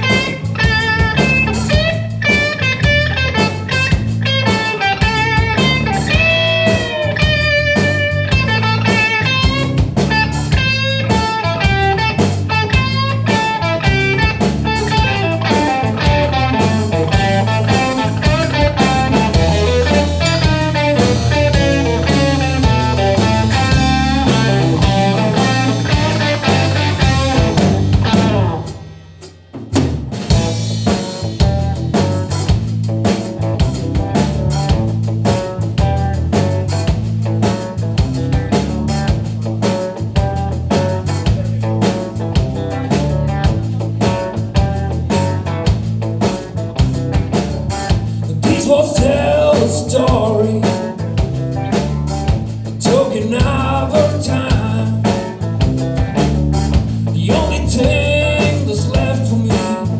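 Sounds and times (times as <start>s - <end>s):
bass guitar: 0.0s - 59.9s
drum kit: 0.0s - 59.9s
electric guitar lead with bent notes: 0.0s - 59.9s.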